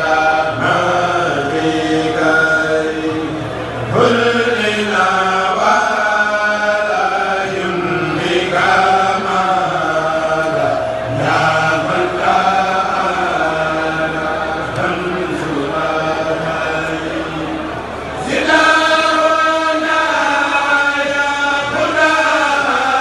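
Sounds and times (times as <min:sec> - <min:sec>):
men chanting in unison: 0:00.0 - 0:23.0.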